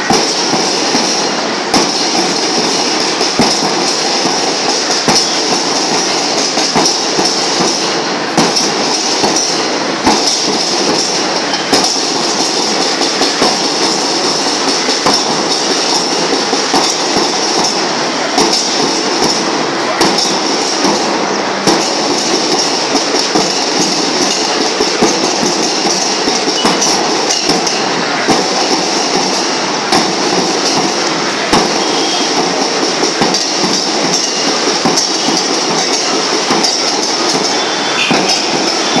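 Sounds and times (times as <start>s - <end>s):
cymbal crashes: 0.0s - 39.0s
drums beating: 0.0s - 39.0s.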